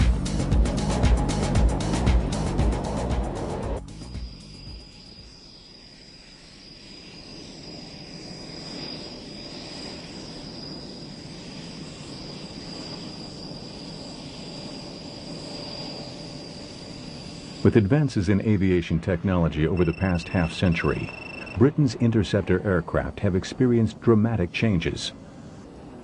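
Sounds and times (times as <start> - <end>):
high-pitched whine: 0.0 - 26.0
jet engine rush: 0.0 - 26.0.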